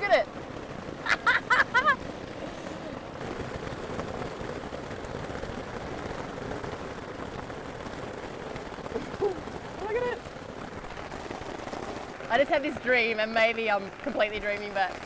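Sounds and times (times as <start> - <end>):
rain and hail on a tent: 0.0 - 15.0.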